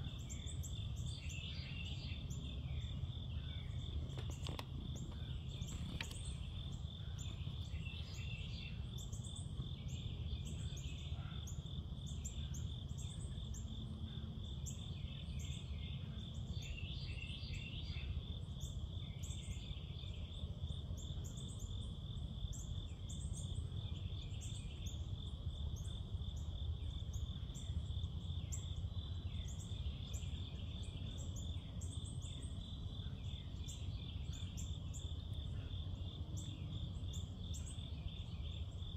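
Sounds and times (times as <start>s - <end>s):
cricket trill: 0.0s - 38.9s.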